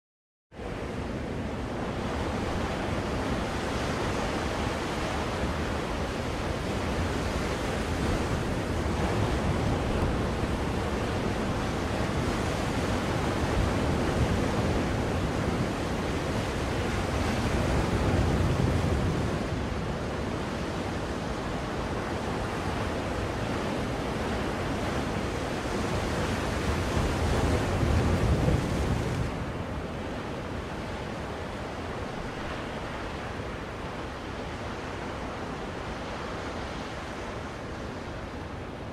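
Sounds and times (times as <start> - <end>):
ocean waves washing in: 0.6 - 38.9.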